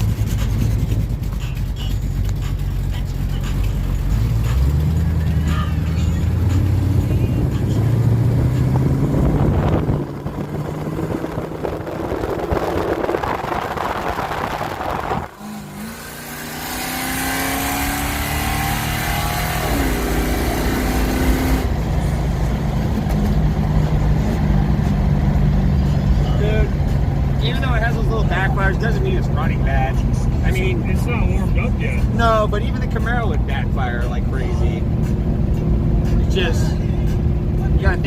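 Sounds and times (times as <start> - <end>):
car engine running and revving: 0.0 - 38.0.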